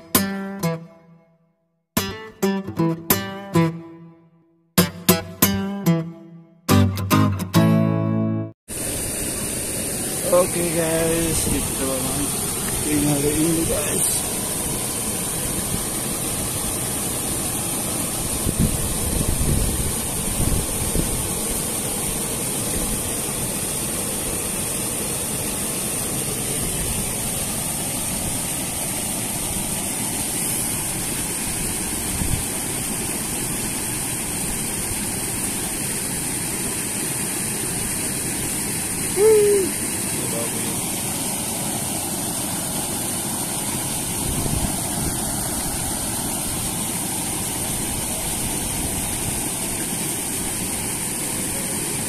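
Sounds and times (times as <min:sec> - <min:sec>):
river water rushing over weir: 0:08.7 - 0:52.0.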